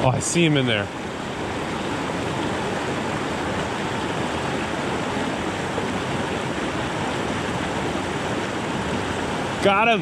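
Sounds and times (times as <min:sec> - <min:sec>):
water rushing over rocks: 0:00.0 - 0:10.0.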